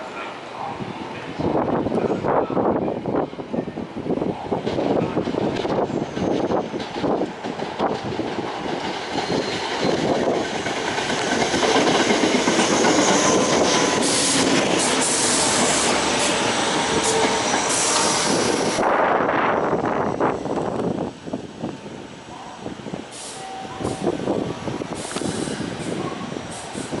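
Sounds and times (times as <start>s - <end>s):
train wheels on rails: 4.1s - 22.0s, 22.7s - 27.0s.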